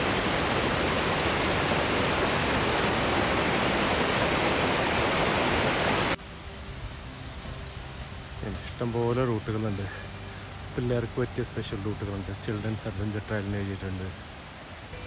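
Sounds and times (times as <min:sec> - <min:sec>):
quiet outdoor background: 0:00.0 - 0:15.0
waterfall rushing over rocks: 0:00.0 - 0:15.0.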